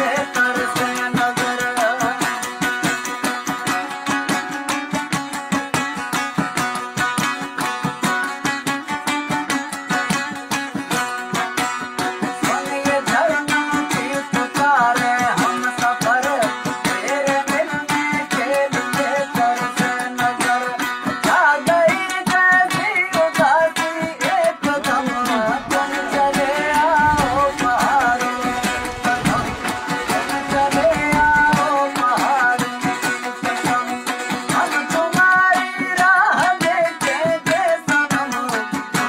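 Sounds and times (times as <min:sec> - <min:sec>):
ornamented melody with percussion: 0:00.0 - 0:39.0.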